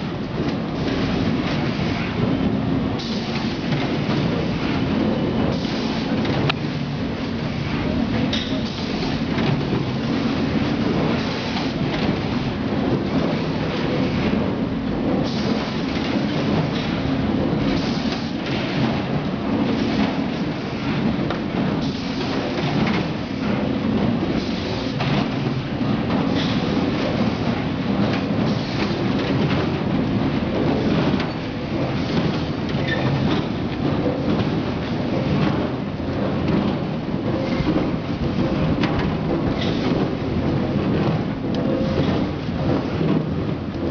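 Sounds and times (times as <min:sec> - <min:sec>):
packaging machine running: 0:00.0 - 0:43.9.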